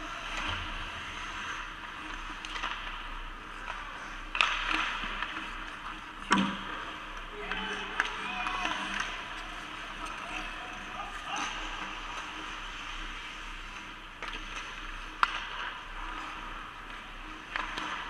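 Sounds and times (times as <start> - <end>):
skates scraping ice: 0.0 - 18.0
sticks and puck clacking: 0.0 - 18.0.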